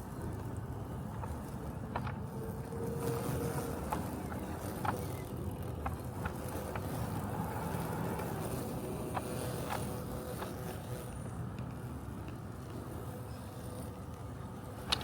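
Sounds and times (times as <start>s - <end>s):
robotic lawn mower humming: 0.0s - 15.0s.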